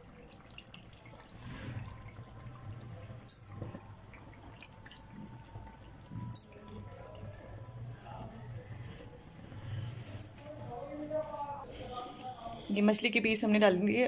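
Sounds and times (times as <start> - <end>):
gravy bubbling: 0.0 - 12.6.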